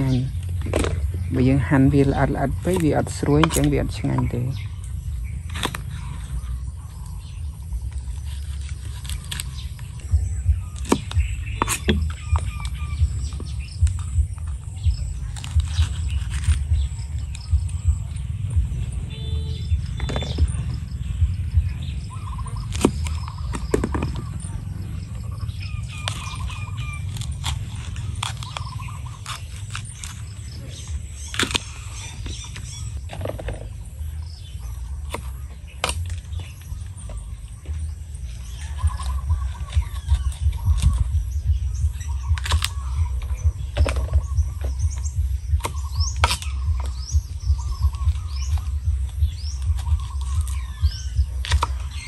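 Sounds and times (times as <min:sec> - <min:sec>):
small birds chirping: 0:00.0 - 0:52.0
steady low rumble: 0:00.0 - 0:52.0.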